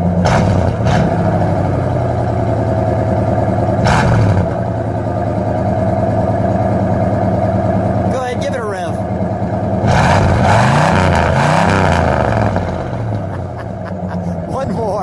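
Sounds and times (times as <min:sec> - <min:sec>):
engine idling through exhaust: 0:00.0 - 0:15.0.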